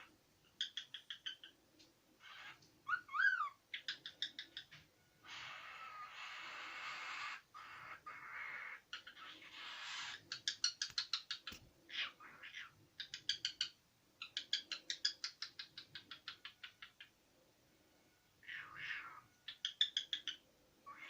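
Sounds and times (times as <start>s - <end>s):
cockatiel chattering: 0.5s - 1.5s, 2.2s - 17.1s, 18.4s - 21.0s.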